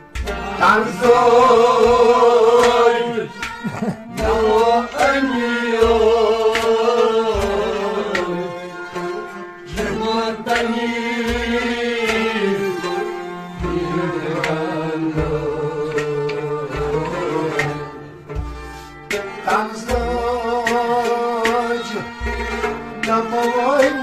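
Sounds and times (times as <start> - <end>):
hand-drum strokes: 0.0 - 24.0
harmonium chords: 0.0 - 24.0
man singing with vibrato: 0.4 - 18.0, 19.3 - 22.2, 23.1 - 24.0.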